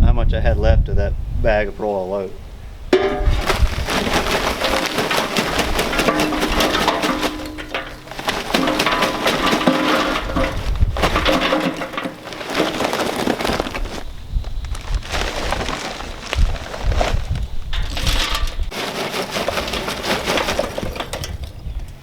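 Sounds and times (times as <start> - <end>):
charcoal clattering into metal hopper: 2.9 - 22.0.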